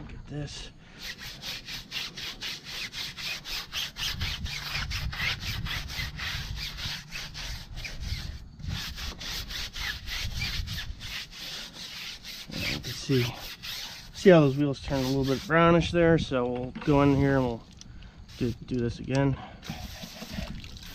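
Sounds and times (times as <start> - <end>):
brush scrubbing a tire: 0.9 - 16.0, 16.8 - 17.7, 18.3 - 19.0, 19.6 - 20.9.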